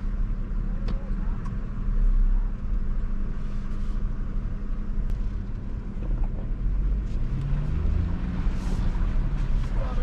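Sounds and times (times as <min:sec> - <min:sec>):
engine low drone: 0:00.0 - 0:10.0.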